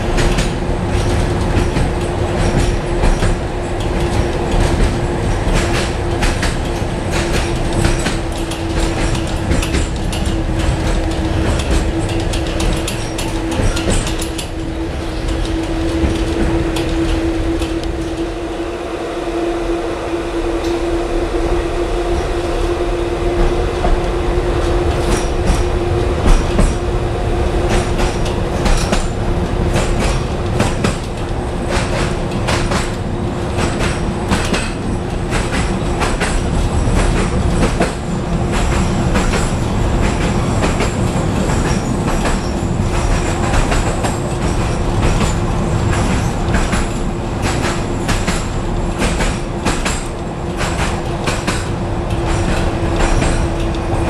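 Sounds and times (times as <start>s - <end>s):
wheels clacking over rail joints: 0.0s - 18.6s, 23.4s - 54.0s
tram running noise: 0.0s - 54.0s.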